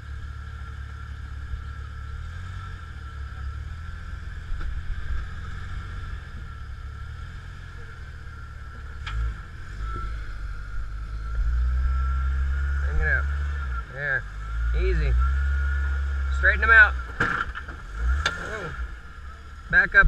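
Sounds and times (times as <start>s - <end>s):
engine running at low revs: 0.0s - 20.0s
thin steady whine: 0.0s - 20.0s.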